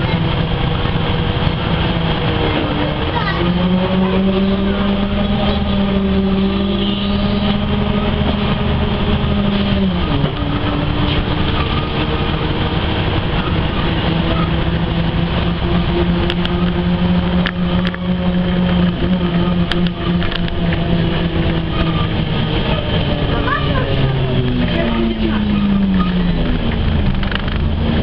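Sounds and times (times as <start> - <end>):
bus engine whining: 0.0 - 28.0.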